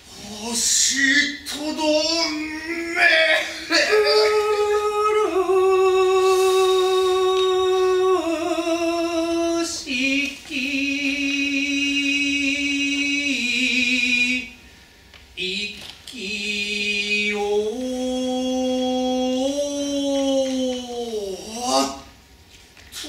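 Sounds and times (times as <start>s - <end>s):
man chanting unaccompanied: 0.1s - 14.6s, 15.4s - 22.2s.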